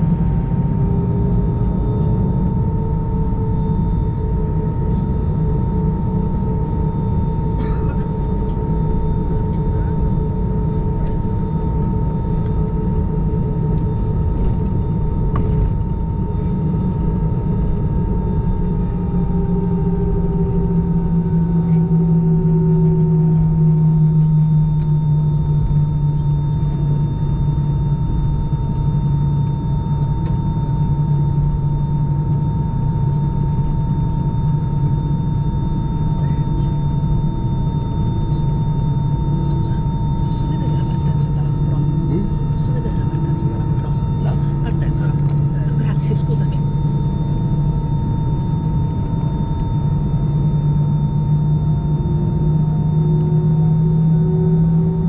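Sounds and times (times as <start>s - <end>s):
aircraft cabin rumble and engine hum: 0.0s - 55.0s
steady engine whine: 0.0s - 55.0s.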